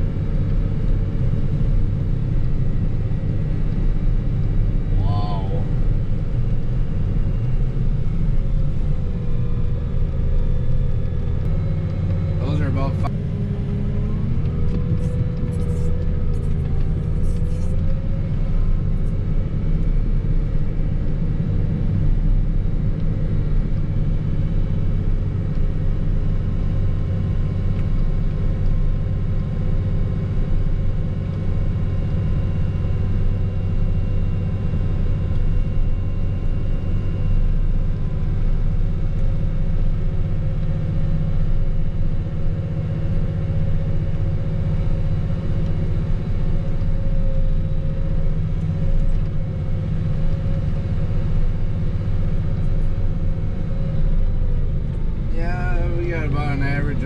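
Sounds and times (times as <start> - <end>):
snowplow engine running: 0.0 - 57.0
thin wavering whine: 0.0 - 57.0.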